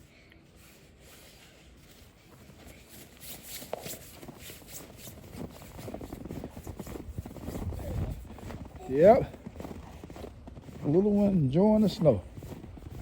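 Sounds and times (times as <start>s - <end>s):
footsteps crunching in snow: 0.5s - 13.0s.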